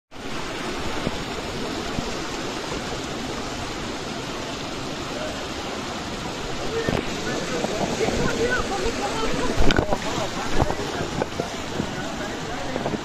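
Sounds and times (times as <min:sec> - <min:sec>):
stream rushing over rocks: 0:00.1 - 0:13.0.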